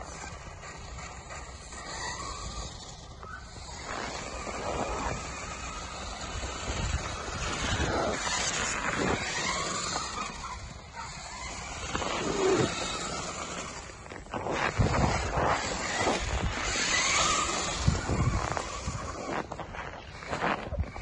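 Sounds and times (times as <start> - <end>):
crunching snow rumble: 0.0 - 21.0
toy electric motor whining: 0.0 - 21.0.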